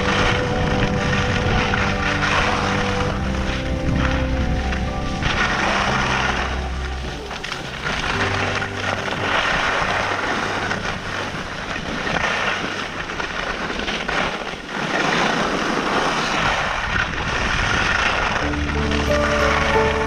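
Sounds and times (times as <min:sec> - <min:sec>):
skis scraping over snow: 0:00.0 - 0:20.0
wind on microphone: 0:00.0 - 0:20.0.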